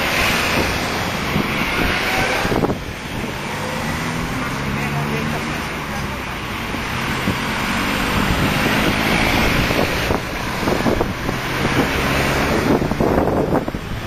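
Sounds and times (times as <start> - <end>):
wind buffeting microphone: 0.0 - 4.7, 5.6 - 14.0
car engine and road noise: 0.0 - 14.0.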